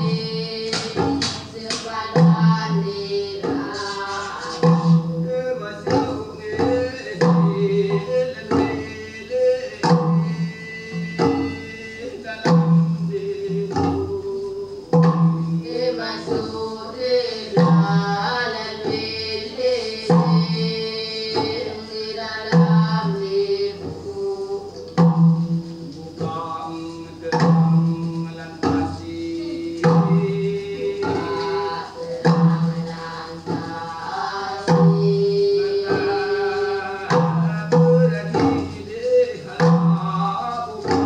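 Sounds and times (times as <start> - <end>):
chorus of voices: 0.0 - 41.0
person singing: 0.0 - 41.0.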